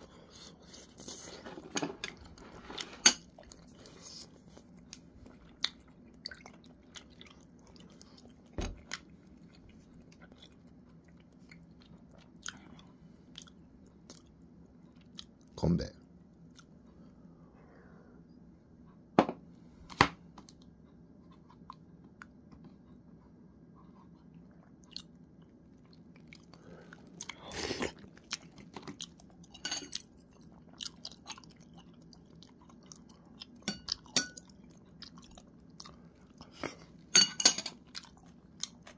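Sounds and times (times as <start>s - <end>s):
person chewing and crunching food: 0.0s - 15.6s, 16.2s - 17.1s, 19.9s - 38.9s.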